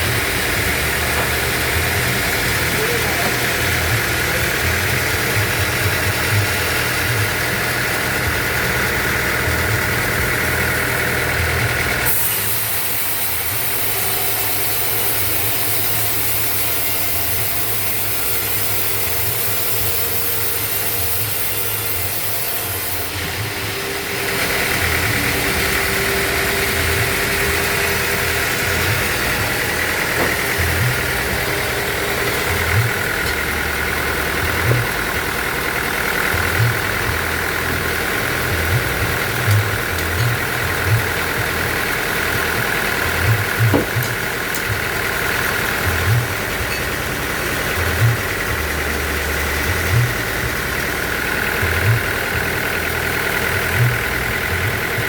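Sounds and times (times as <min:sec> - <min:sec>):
sawmill motor drone: 0:00.0 - 0:55.0.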